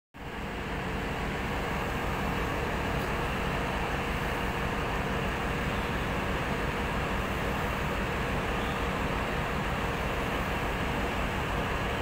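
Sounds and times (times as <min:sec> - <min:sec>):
train rumbling into station: 0:00.2 - 0:12.0.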